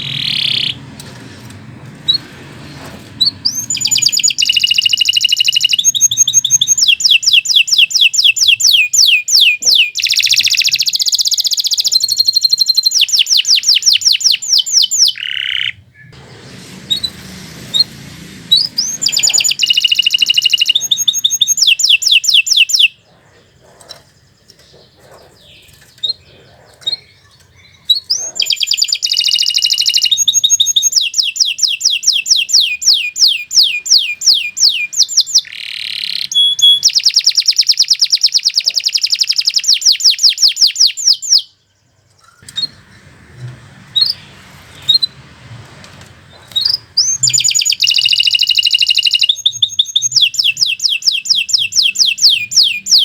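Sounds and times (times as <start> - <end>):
canary singing trills: 0.0 - 1.2, 3.2 - 45.3, 46.3 - 53.0.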